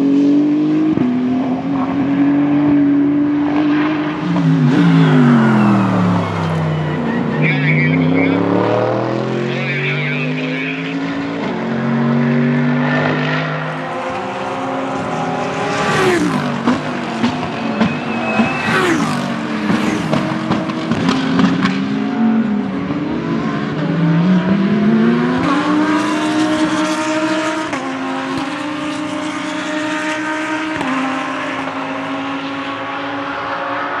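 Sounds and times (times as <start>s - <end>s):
race car engine accelerating: 0.0s - 34.0s.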